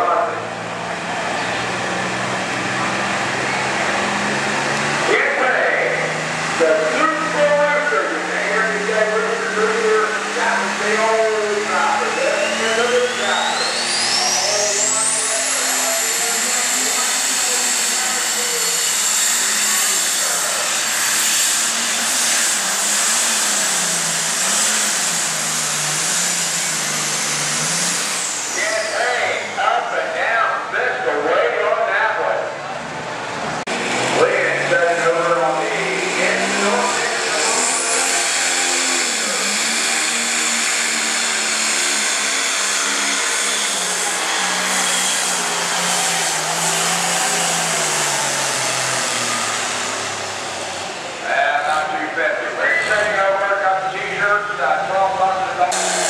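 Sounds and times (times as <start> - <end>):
high whine: 0.0 - 56.0
tractor diesel engine under load: 0.0 - 56.0.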